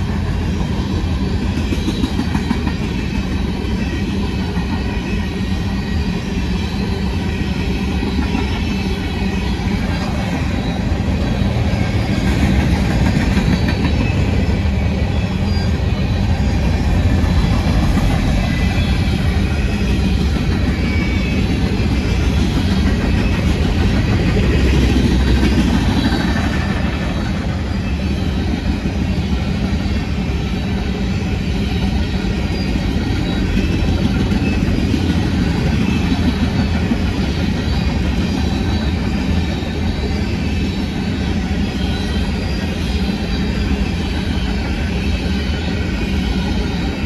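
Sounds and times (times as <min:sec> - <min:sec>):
steel wheels rumbling on rails: 0:00.0 - 0:47.0.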